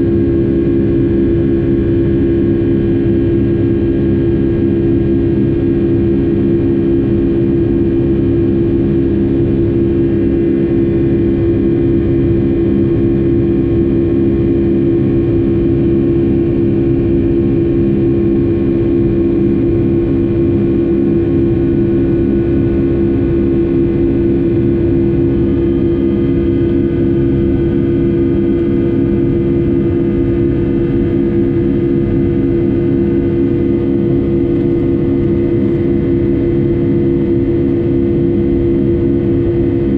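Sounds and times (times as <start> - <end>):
jet engines buzzing in cabin: 0.0 - 39.9.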